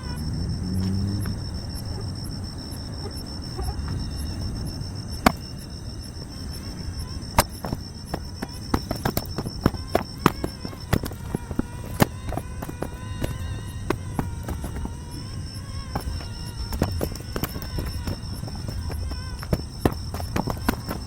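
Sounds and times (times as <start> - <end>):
crickets trilling: 0.0 - 21.0
low background rumble: 0.0 - 21.0.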